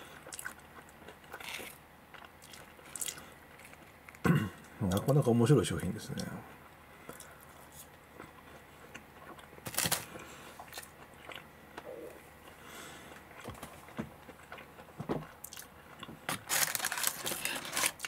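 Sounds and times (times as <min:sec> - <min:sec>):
person chewing crunchy food: 0:00.0 - 0:04.7, 0:07.0 - 0:18.0.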